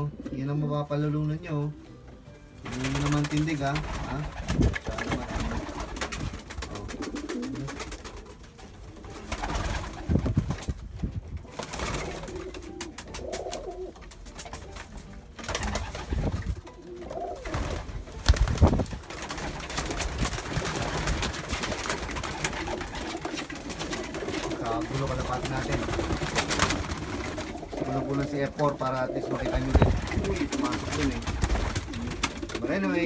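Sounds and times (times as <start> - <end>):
pigeons cooing: 0.0 - 33.0
birds rustling and clicking: 1.8 - 33.0.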